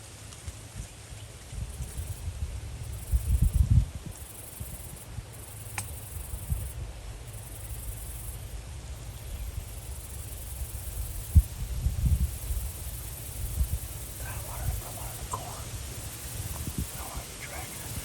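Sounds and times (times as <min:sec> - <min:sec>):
insects trilling: 0:01.7 - 0:18.0.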